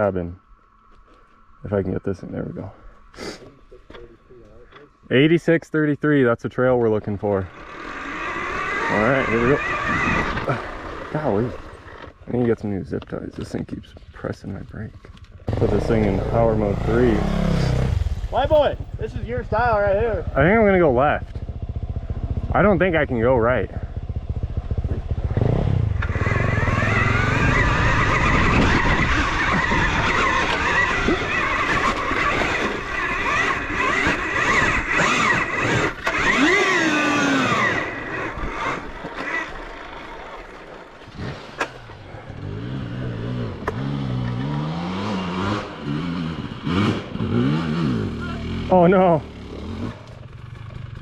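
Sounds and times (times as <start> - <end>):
dirt bike engine: 0.0 - 51.0.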